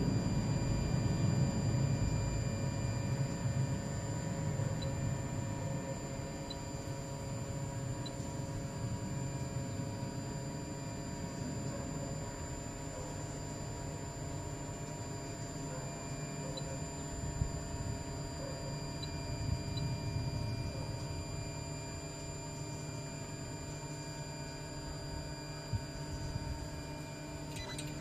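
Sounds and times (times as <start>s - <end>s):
printer motors and fans humming: 0.0s - 28.0s.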